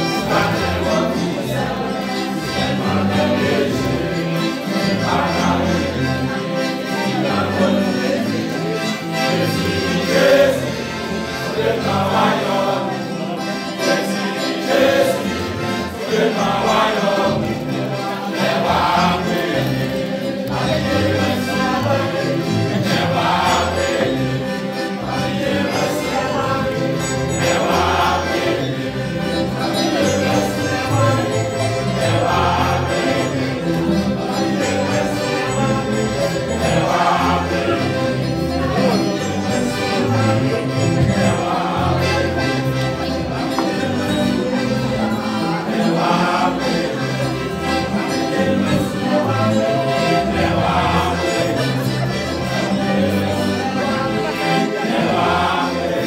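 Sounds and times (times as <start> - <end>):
men's choir singing: 0.0 - 56.0.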